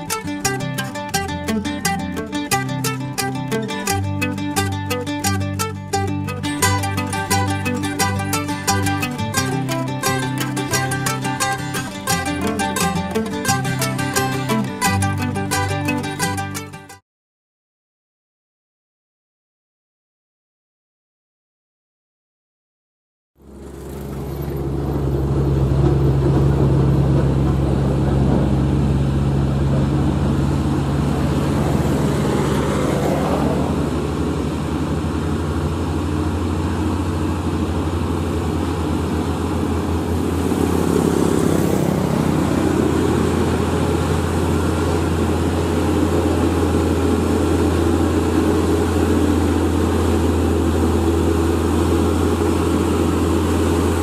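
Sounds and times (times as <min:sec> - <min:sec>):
truck diesel engine droning: 0:00.0 - 0:16.8, 0:23.4 - 0:54.0.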